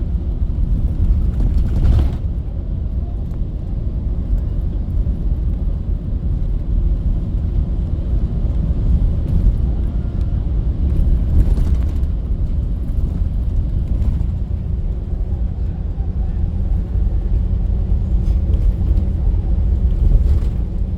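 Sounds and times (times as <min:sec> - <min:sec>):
bus engine and road rumble: 0:00.0 - 0:20.9.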